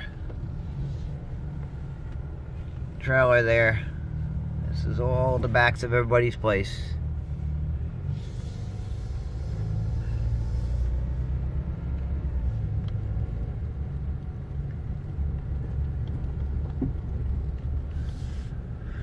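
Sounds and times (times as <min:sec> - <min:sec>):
road noise: 0:00.0 - 0:19.0
vehicle engine rumble: 0:00.0 - 0:19.0.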